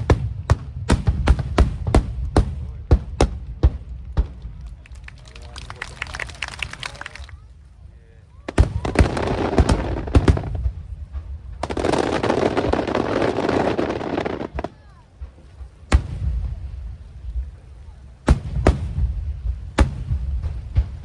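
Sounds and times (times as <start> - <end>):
firework bangs with rolling echo: 0.0 - 5.6, 8.4 - 21.0
fireworks hissing and crackling: 0.0 - 21.0.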